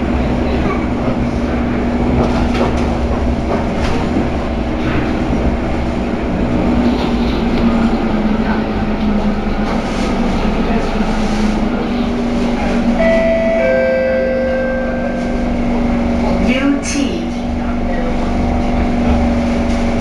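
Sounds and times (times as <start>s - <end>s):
train running drone: 0.0s - 20.0s.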